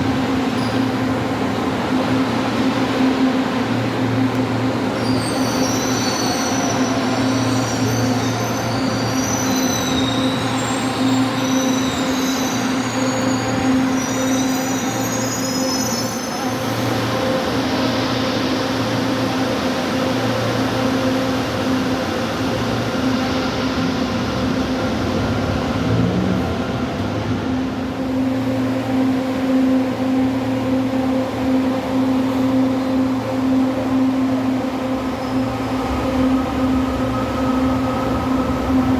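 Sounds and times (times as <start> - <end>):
electric train humming: 0.0 - 38.9.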